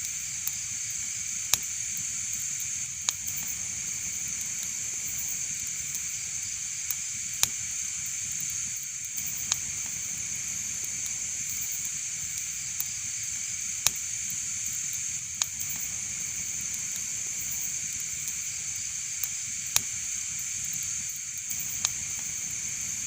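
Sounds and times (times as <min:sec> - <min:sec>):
wood fire crackling: 0:00.4 - 0:23.0.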